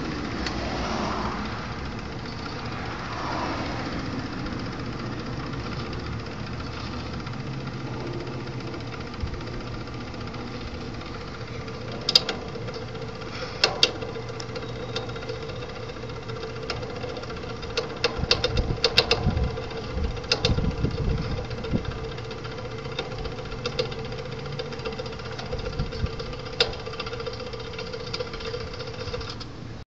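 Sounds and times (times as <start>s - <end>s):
gate motor humming: 0.0s - 29.8s
metallic clanks and rattles: 4.6s - 29.5s.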